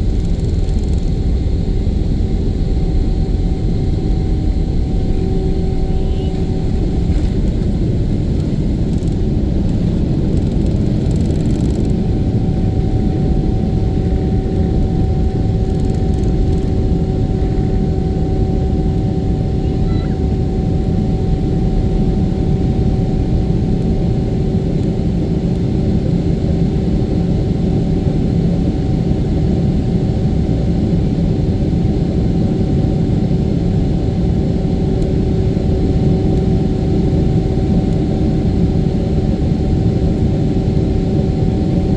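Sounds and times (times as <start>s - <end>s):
jet engines rumbling in cabin: 0.0s - 41.9s.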